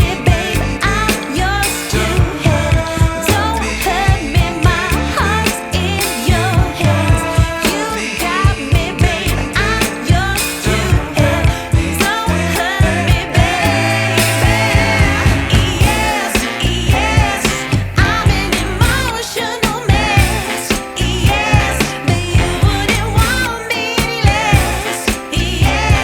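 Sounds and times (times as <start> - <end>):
pop music with singing: 0.0 - 26.0.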